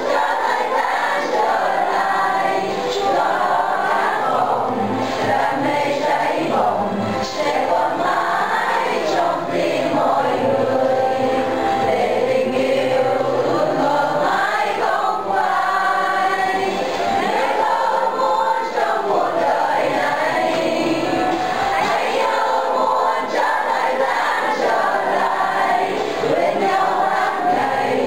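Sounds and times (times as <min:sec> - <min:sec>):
group of voices singing: 0:00.0 - 0:28.0.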